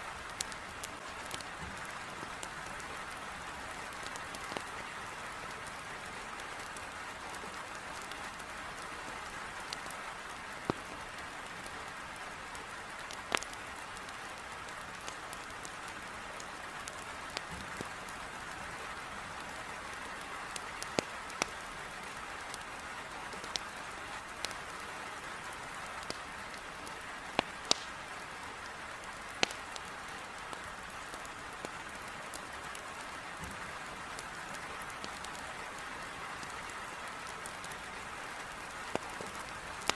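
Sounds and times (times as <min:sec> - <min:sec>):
heavy rain on a window: 0:00.0 - 0:39.9
firewood crackling and popping: 0:00.1 - 0:39.9.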